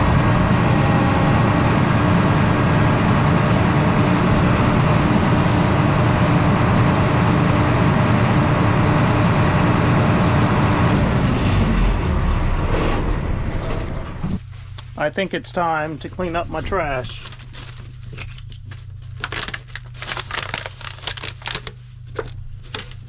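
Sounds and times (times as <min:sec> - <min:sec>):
large vehicle engine running: 0:00.0 - 0:23.0
steady tone in engine hum: 0:00.0 - 0:23.0.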